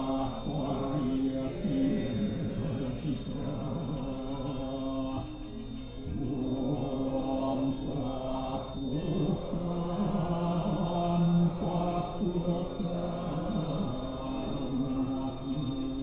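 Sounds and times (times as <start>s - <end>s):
prayer mantras chanted: 0.0s - 16.0s.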